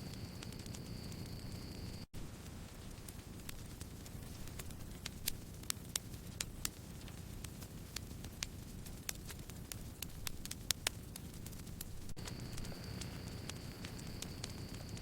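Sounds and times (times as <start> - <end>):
campfire flames rumbling: 0.0 - 15.0
burning wood popping and crackling: 0.1 - 15.0.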